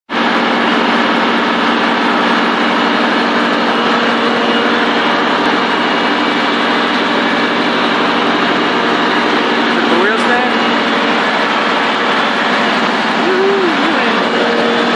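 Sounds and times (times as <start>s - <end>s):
truck engine idling: 0.1s - 14.9s.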